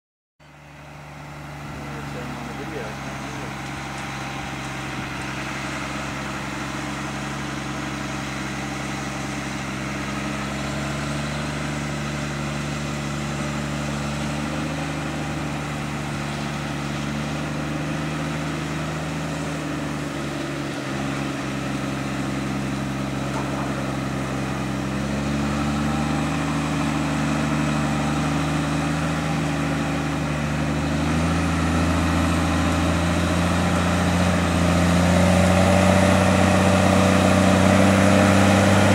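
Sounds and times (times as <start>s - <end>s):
tractor diesel engine under load: 0.4s - 38.9s.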